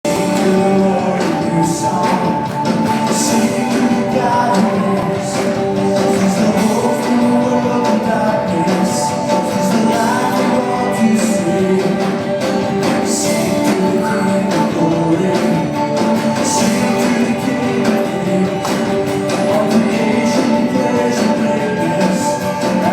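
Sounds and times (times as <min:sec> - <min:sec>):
guitars: 0:00.0 - 0:22.9
live worship band playing: 0:00.0 - 0:22.9
person singing: 0:00.0 - 0:22.9.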